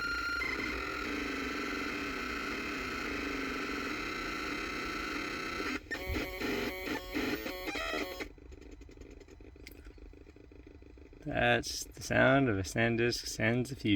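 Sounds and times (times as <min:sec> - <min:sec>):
electronic whine and buzz: 0:00.0 - 0:13.8.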